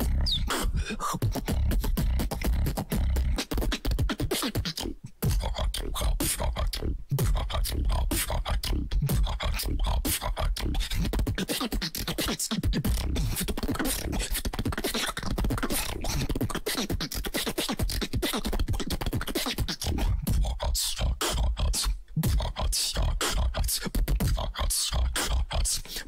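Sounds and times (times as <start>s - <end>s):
hummed vocal lines: 0.0s - 26.0s
person beatboxing: 0.0s - 26.0s.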